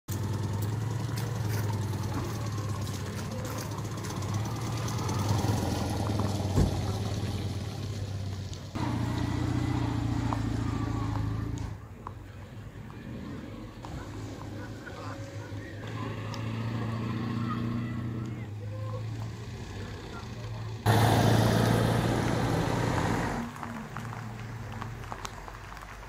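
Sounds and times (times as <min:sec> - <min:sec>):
car engines running slowly: 0:00.0 - 0:26.0.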